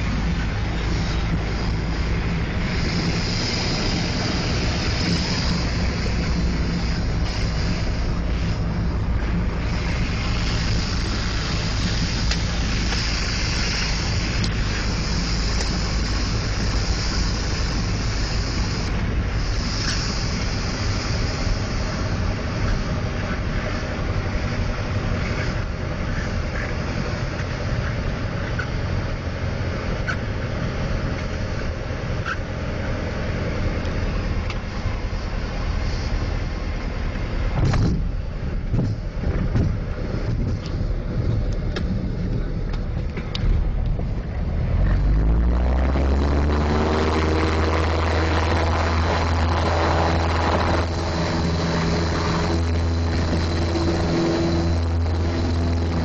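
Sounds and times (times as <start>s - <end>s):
propeller plane engine droning: 0.0s - 56.0s
rush of airflow: 0.0s - 56.0s.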